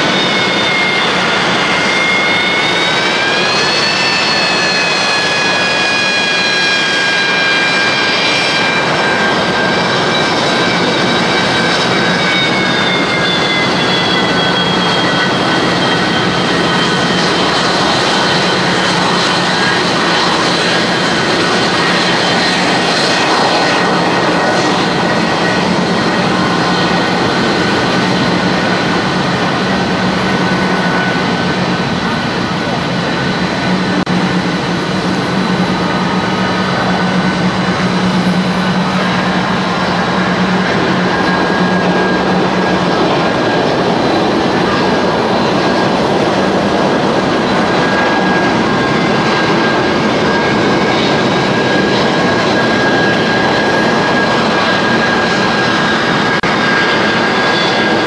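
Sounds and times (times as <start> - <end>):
jet engine whine: 0.0 - 58.0
jet engines rumbling: 0.0 - 58.0.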